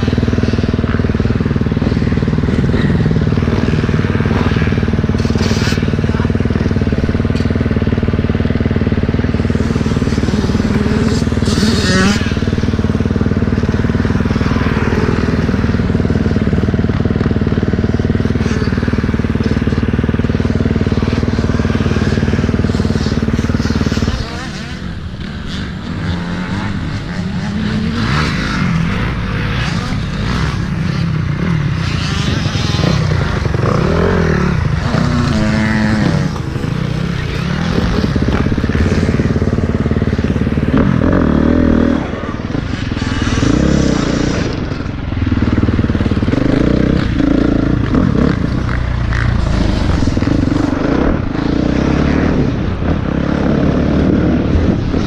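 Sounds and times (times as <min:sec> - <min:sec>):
dirt bike engine: 0:00.0 - 0:55.0.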